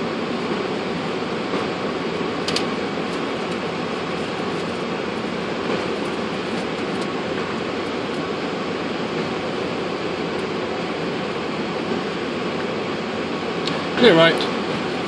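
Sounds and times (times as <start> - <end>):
airplane cockpit rushing noise: 0.0 - 15.0.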